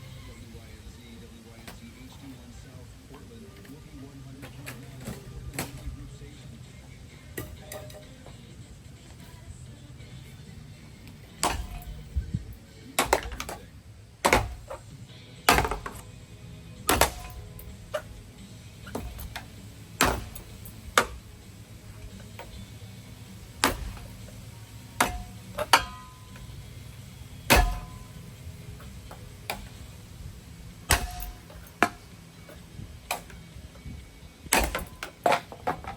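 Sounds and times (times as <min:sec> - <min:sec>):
metallic knocks and clanks: 0:00.0 - 0:08.5, 0:10.3 - 0:16.2, 0:16.8 - 0:35.9
steady low hum: 0:00.0 - 0:35.9.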